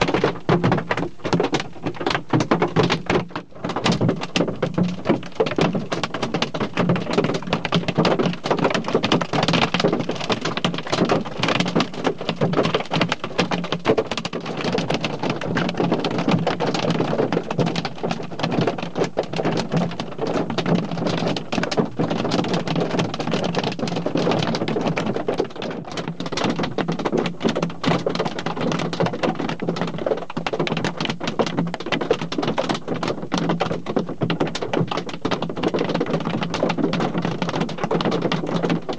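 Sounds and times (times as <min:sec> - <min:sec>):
hail pattering: 0:00.0 - 0:38.9.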